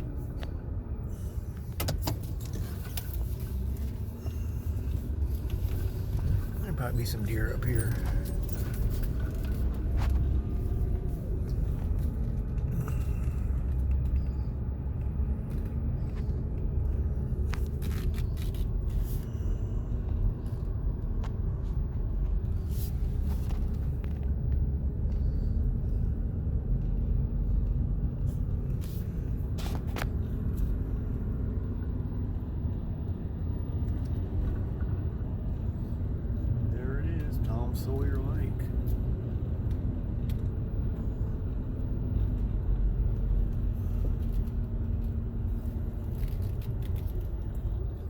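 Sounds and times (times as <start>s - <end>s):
engine and tyre rumble: 0.0s - 48.0s.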